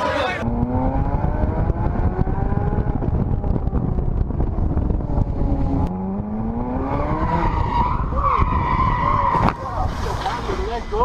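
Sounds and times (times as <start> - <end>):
road rumble: 0.0 - 11.0
wind buffeting: 0.3 - 11.0.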